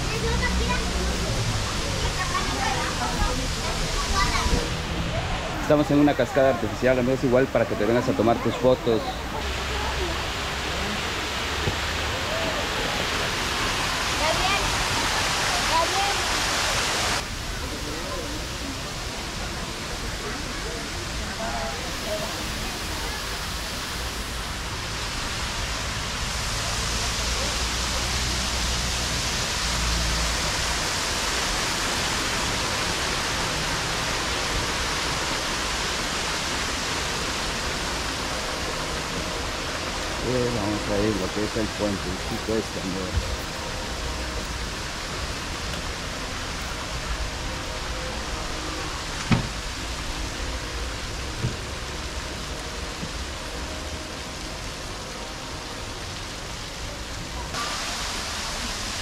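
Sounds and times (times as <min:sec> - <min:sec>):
water rushing from waterfall: 0:00.0 - 0:59.0.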